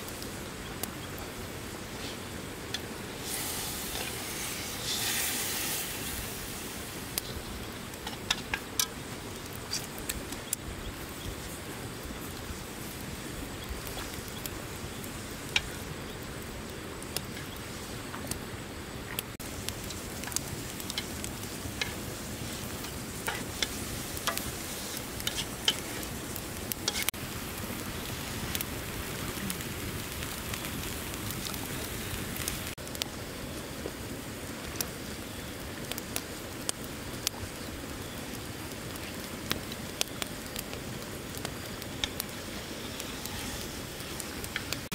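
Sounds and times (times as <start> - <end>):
campfire crackling and popping: 0.0 - 44.9
steady hiss: 0.0 - 44.9.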